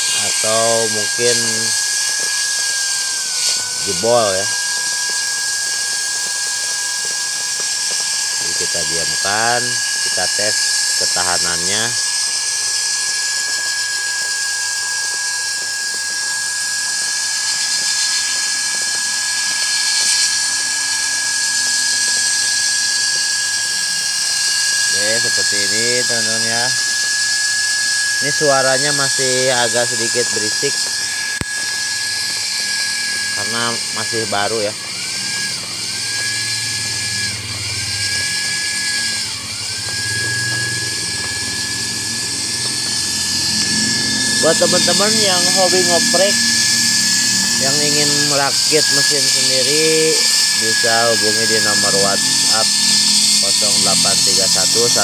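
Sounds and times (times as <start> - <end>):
electric motor whining: 0.0 - 55.0.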